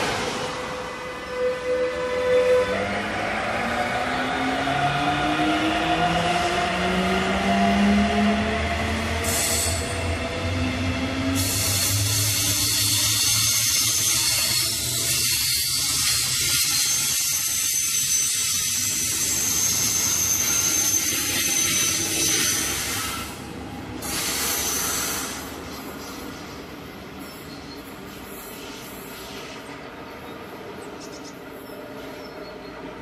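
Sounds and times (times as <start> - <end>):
train wheels rushing on rail: 0.0 - 33.0.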